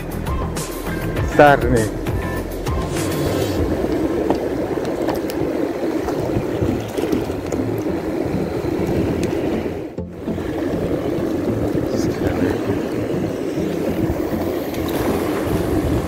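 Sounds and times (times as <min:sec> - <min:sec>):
wind on microphone: 0:00.3 - 0:16.0
sea surf washing over rocks: 0:00.7 - 0:16.0.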